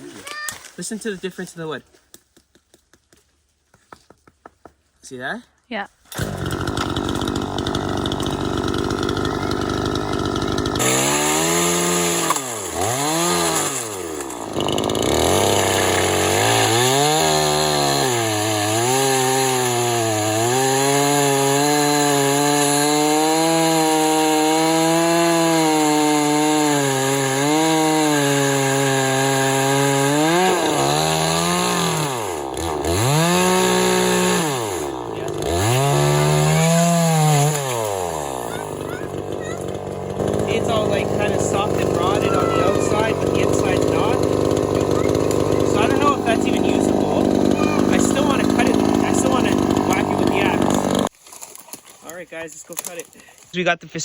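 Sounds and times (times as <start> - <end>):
chainsaw cutting log: 6.1 - 53.2.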